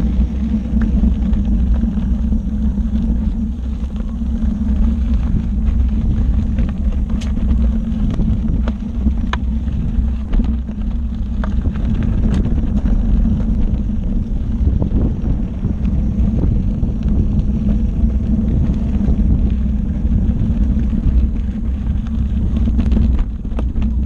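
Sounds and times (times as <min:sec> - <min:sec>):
small stones ticking: 0:00.0 - 0:24.0
tyre rumbling on dirt: 0:00.0 - 0:24.0
wind buffeting microphone: 0:00.0 - 0:24.0.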